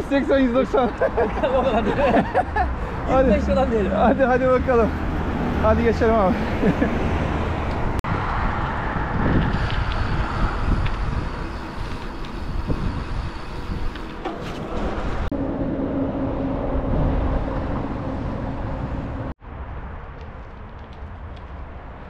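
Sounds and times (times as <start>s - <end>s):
wind rushing over microphone: 1.3s - 22.0s.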